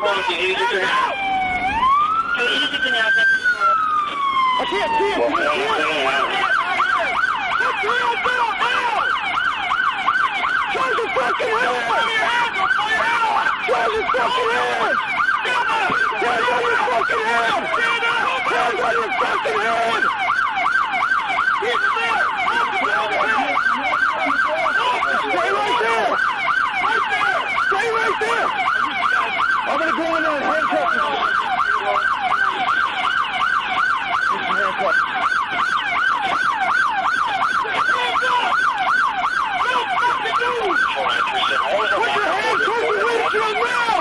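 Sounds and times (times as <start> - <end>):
fainter second siren: 0.0 - 44.0
police siren yelping: 0.0 - 44.0.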